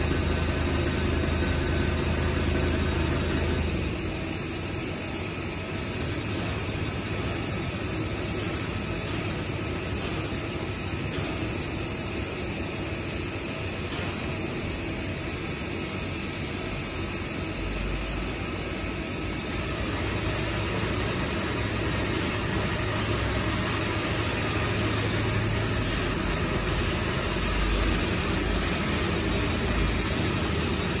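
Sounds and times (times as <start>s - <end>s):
boring machine drone: 0.0s - 31.0s.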